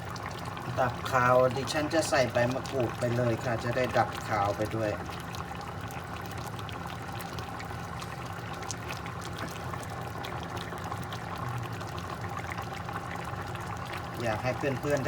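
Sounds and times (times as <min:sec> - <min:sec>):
broth boiling hard: 0:00.0 - 0:15.0
low steady hum: 0:00.0 - 0:15.0.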